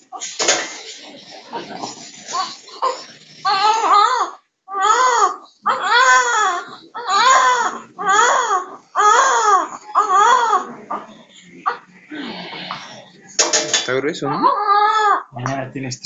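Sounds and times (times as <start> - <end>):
newborn baby crying: 0.1 - 13.2, 14.2 - 15.3.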